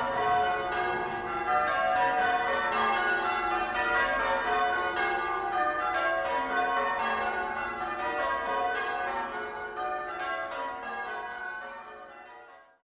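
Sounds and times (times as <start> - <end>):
church bells ringing: 0.0 - 12.8.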